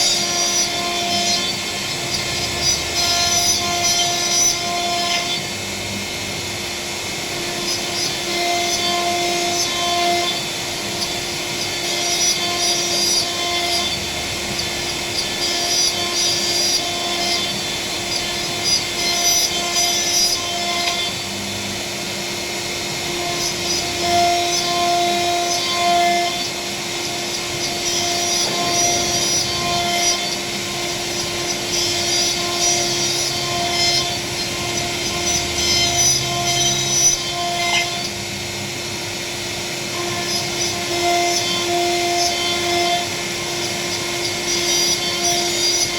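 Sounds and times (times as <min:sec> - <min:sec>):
router bit cutting wood: 0:00.0 - 0:45.9
router spindle whining: 0:00.0 - 0:45.9.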